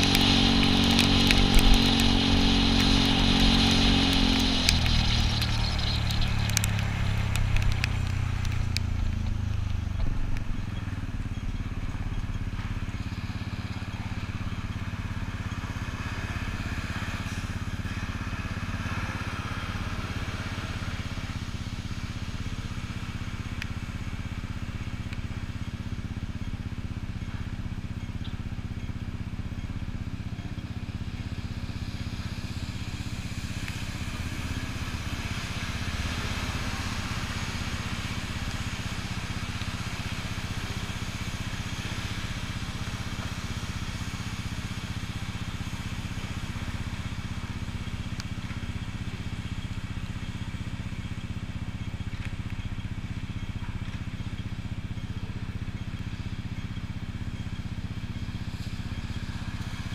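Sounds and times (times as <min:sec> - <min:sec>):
background traffic: 0:00.0 - 0:59.9
scooter engine idling: 0:00.0 - 0:59.9.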